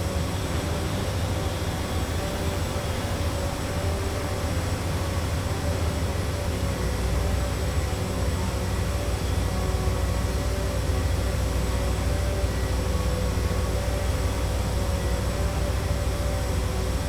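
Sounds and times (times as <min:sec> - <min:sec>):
construction machinery: 0:00.0 - 0:17.0
steady mechanical hum: 0:00.0 - 0:17.0.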